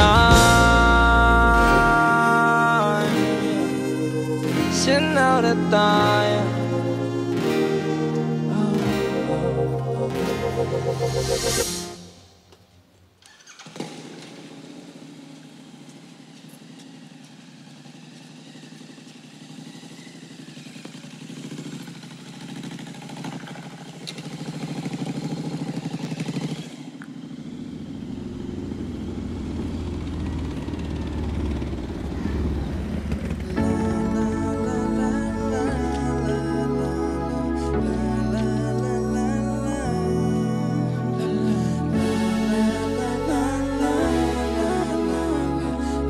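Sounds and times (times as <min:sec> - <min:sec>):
motorcycle-like engine droning: 0:00.0 - 0:46.0.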